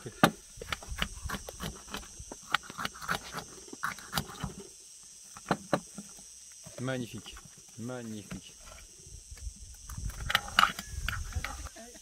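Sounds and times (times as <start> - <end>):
insect trill: 0.0 - 12.0.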